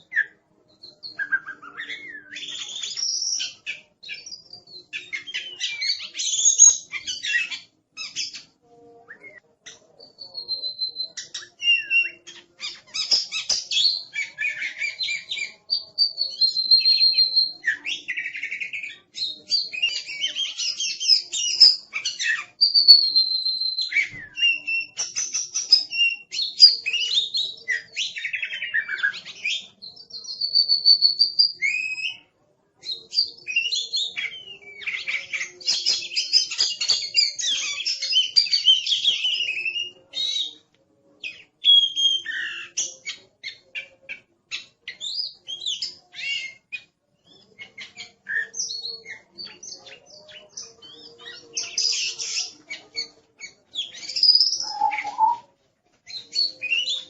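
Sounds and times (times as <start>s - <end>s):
songbird whistling and trilling: 0.0s - 8.5s, 9.1s - 32.2s, 32.9s - 40.6s, 41.2s - 55.5s.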